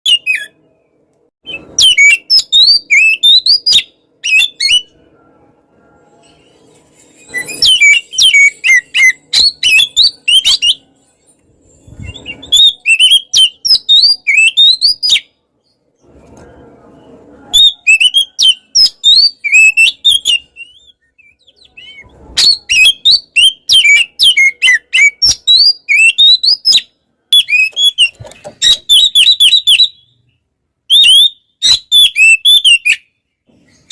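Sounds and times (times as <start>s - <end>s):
magpie-robin singing: 1.4s - 4.9s, 6.2s - 15.8s, 17.5s - 33.9s.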